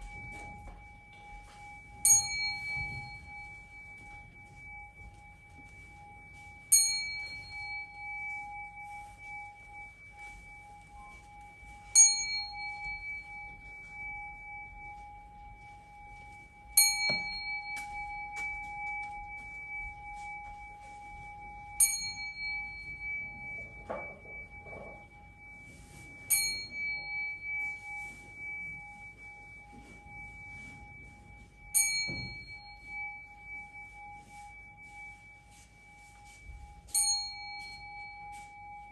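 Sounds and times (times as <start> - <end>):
hand bell ringing: 0.0 - 38.9
steady high tone: 0.0 - 38.9.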